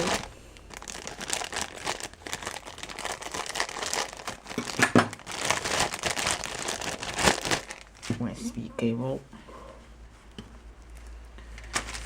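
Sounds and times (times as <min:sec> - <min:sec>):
plastic packaging crinkling: 0:00.0 - 0:08.5, 0:10.8 - 0:12.0.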